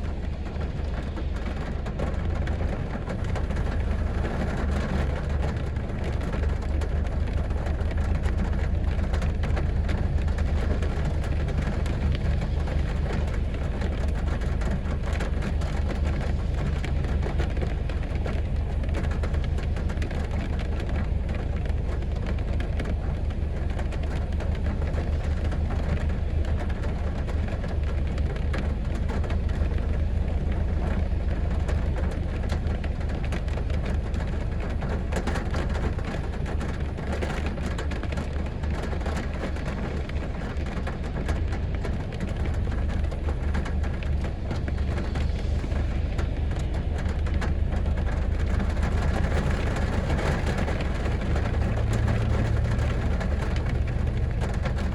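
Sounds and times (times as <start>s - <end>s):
heavy rain on a street: 0.0s - 54.9s.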